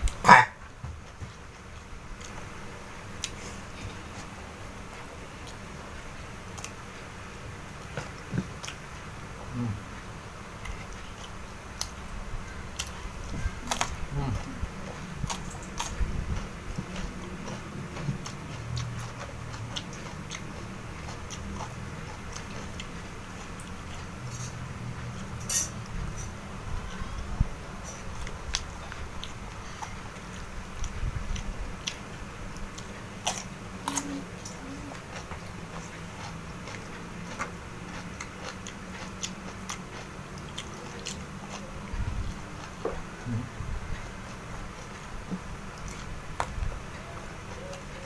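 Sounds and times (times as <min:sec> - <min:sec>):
steady low hum: 0:00.0 - 0:48.0
person chewing: 0:03.2 - 0:48.0.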